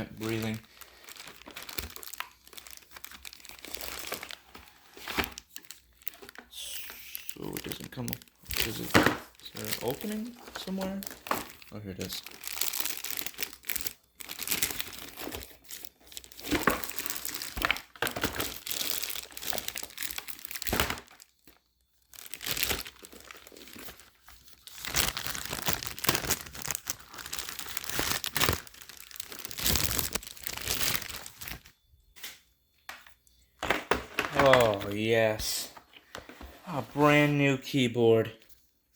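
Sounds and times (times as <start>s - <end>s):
plastic bag crinkling: 0.0s - 31.8s, 34.2s - 35.1s.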